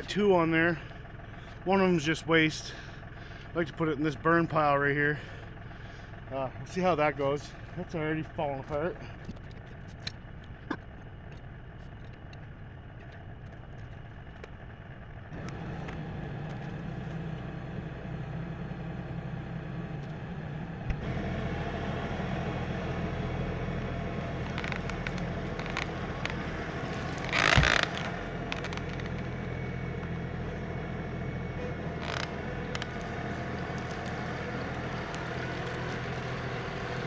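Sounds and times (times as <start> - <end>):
tractor engine under load: 0.0 - 37.0.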